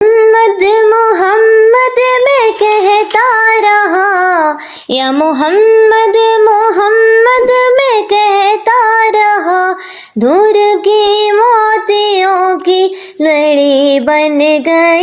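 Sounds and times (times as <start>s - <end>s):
high voice singing: 0.0s - 15.0s.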